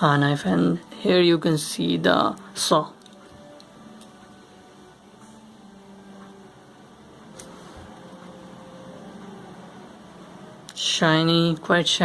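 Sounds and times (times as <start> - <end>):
faint steady tones: 0.0 - 12.0.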